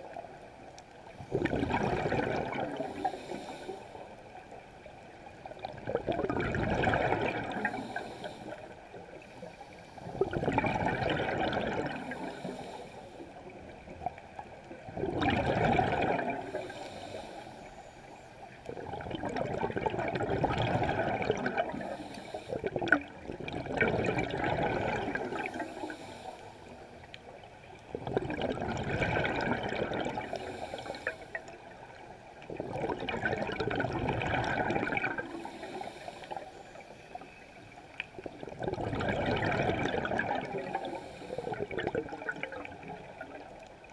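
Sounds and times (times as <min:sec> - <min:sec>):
underwater exhaled bubbles: 0:00.0 - 0:43.9.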